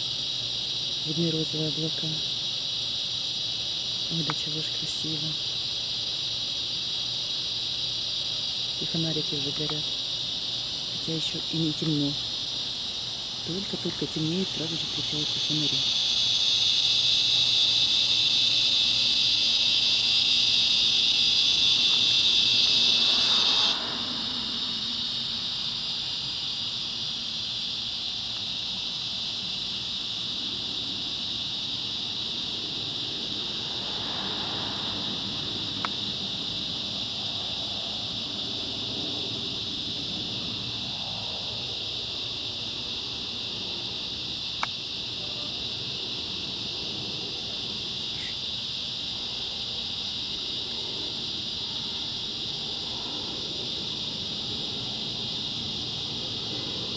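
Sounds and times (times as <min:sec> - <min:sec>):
cicadas buzzing: 0:00.0 - 0:56.9.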